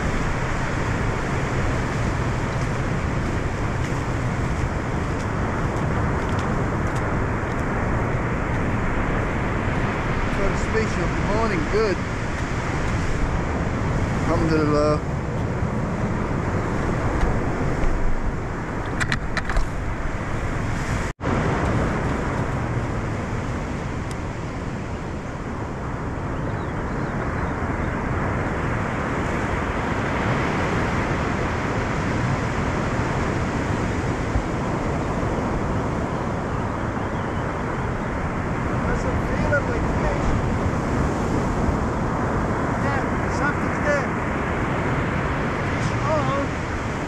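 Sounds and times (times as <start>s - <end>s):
surf breaking on beach: 0.0s - 26.2s, 27.1s - 36.8s, 37.5s - 47.0s
wind: 0.0s - 47.0s.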